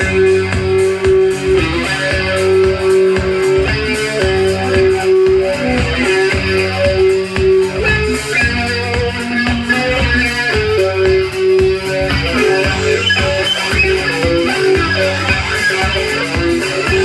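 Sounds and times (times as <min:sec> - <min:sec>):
bass guitar: 0:00.0 - 0:17.0
electric guitar melody: 0:00.0 - 0:17.0
steady drum beat: 0:00.0 - 0:17.0.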